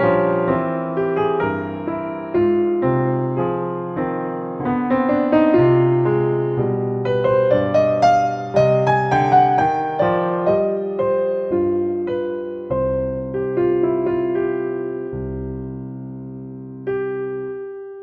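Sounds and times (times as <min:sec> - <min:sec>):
soft solo piano: 0:00.0 - 0:18.0.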